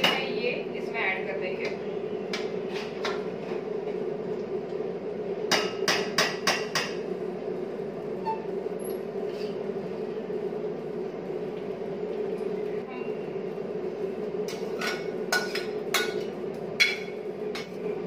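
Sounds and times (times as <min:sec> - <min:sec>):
low kitchen hum: 0:00.0 - 0:18.0.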